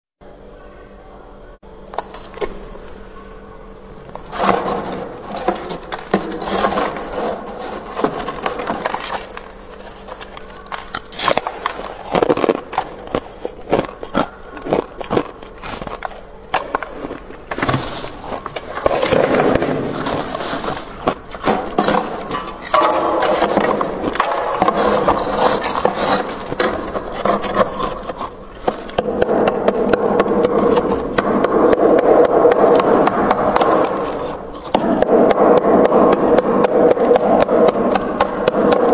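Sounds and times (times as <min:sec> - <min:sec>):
freezer frost being scraped: 0:04.1 - 0:38.9.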